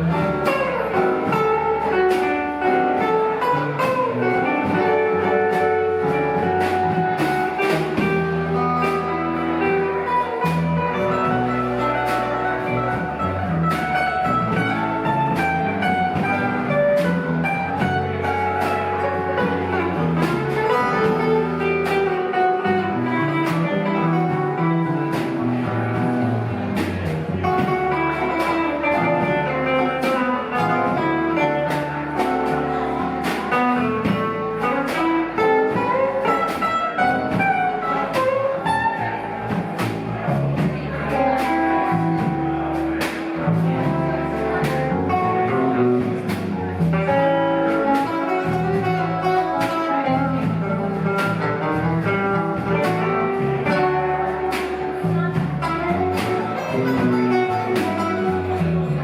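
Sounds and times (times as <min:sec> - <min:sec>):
rock band playing instrumental: 0:00.0 - 0:59.0.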